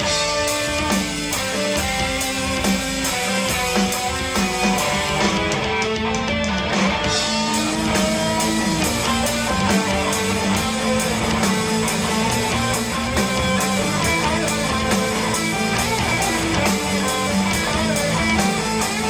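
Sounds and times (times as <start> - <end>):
bass guitar: 0.0 - 19.0
drum kit steady beat: 0.0 - 19.0
electric guitars: 0.0 - 19.0.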